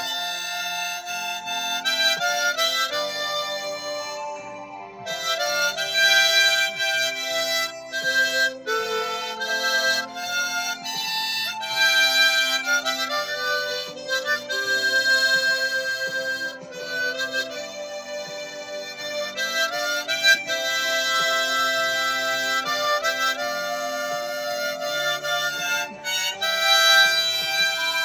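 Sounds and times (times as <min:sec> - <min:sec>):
harmonica playing a hymn melody: 0:00.0 - 0:28.0.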